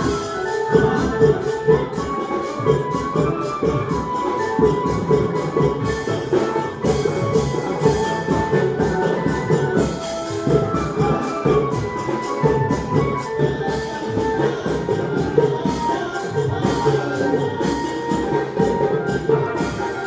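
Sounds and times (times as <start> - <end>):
music with drum beat: 0.0 - 20.0.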